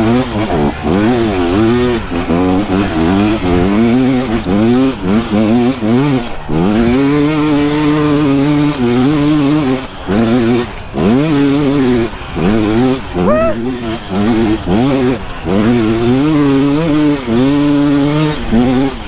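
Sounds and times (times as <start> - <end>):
two-stroke engine revving hard: 0.0 - 19.0.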